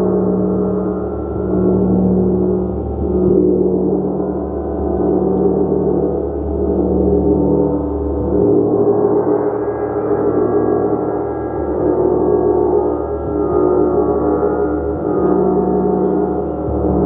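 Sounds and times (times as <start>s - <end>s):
large gong played: 0.0s - 17.0s.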